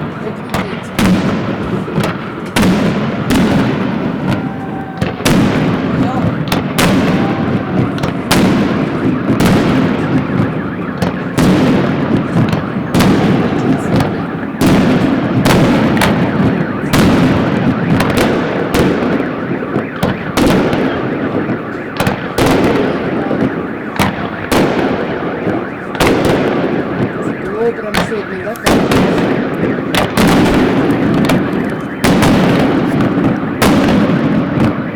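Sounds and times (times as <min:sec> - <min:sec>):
fireworks rumble and crackle: 0:00.0 - 0:34.9.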